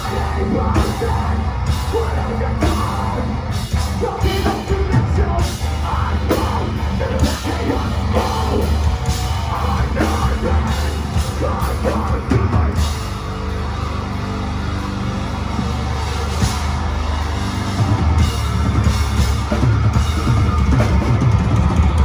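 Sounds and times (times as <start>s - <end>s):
metal band playing live: 0.0s - 22.0s.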